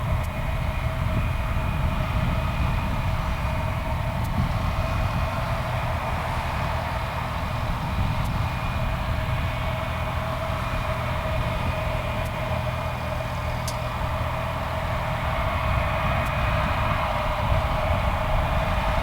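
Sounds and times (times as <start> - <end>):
jet engines whining and rumbling: 0.0 - 19.0.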